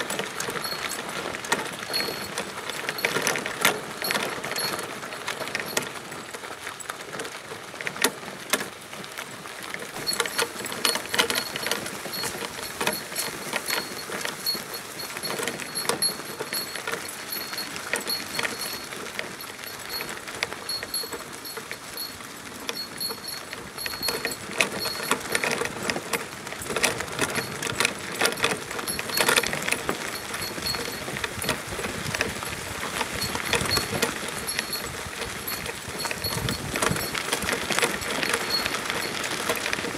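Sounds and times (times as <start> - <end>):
cart rattling and clicking: 0.0 - 39.9.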